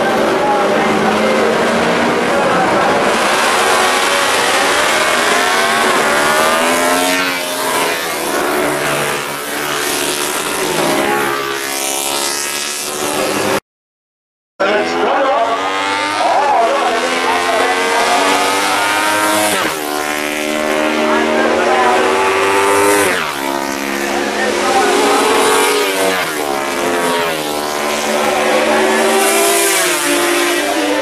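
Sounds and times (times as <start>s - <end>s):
motorcycle engine revving: 0.0s - 13.6s, 14.6s - 31.0s
racing motorcycles passing: 0.0s - 13.6s, 14.6s - 31.0s.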